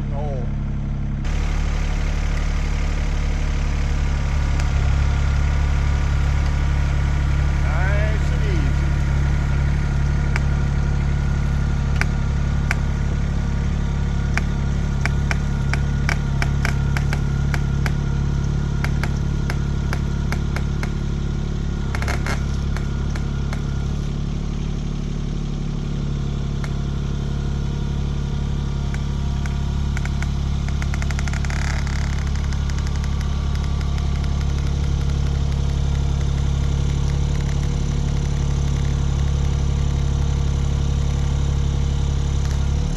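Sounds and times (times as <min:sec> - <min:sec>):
excavator engine running: 0:00.0 - 0:42.9
sharp clicks and rattles: 0:01.3 - 0:42.9.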